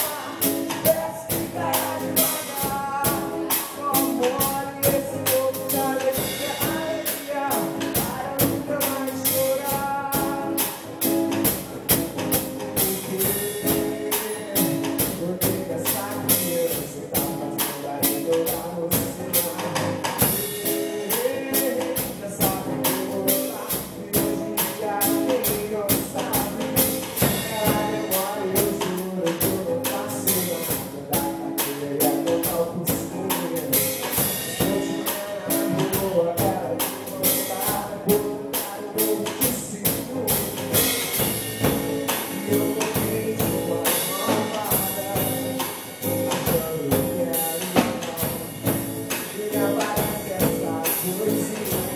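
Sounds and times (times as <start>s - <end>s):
band playing upbeat song: 0.0s - 51.9s.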